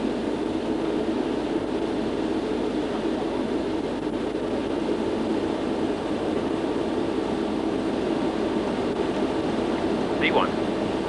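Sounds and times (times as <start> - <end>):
jet engines rushing rumble: 0.0 - 11.0.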